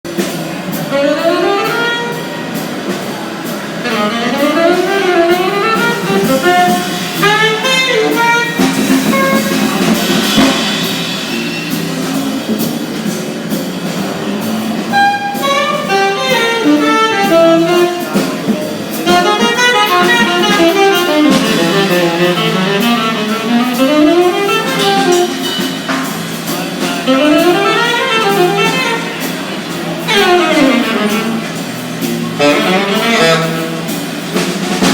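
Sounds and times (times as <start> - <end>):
musical accompaniment: 0.1 - 34.9.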